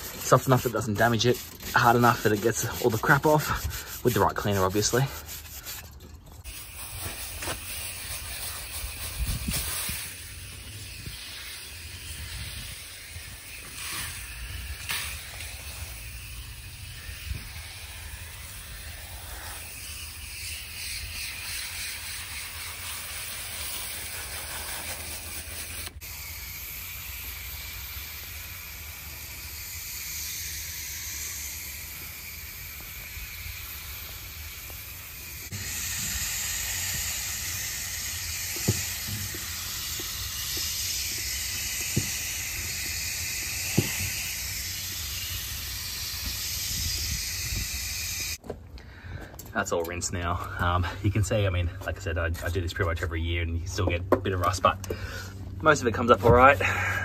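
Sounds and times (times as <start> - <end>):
hose spray hissing: 0.0 - 48.4.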